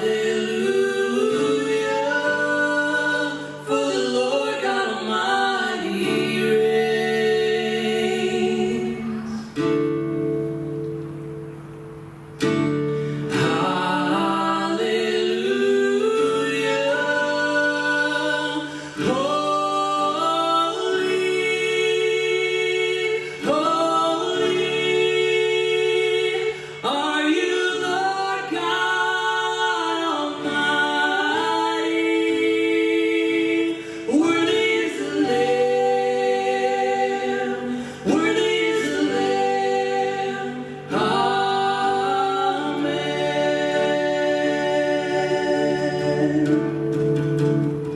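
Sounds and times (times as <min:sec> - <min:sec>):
choir singing a cappella: 0:00.0 - 0:11.8, 0:13.2 - 0:47.9.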